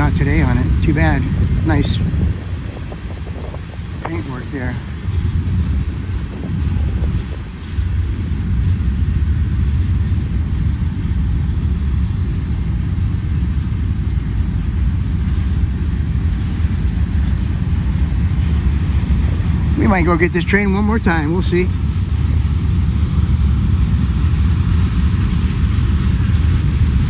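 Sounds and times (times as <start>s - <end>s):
freight train rolling past: 0.0s - 27.0s.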